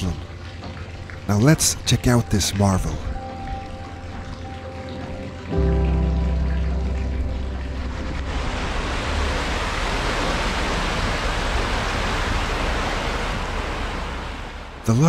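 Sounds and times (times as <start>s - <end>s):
water rushing into lock chamber: 0.0s - 15.0s.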